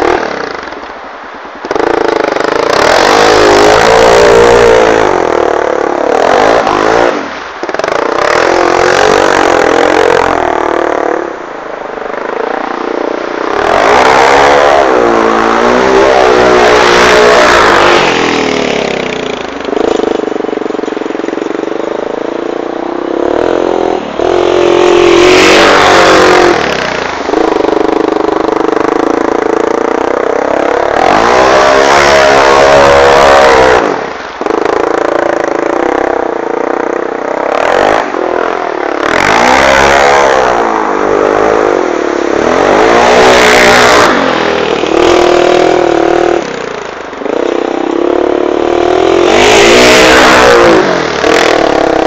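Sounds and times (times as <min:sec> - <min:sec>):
quad bike engine revving: 0:00.0 - 0:01.0, 0:01.6 - 0:52.0.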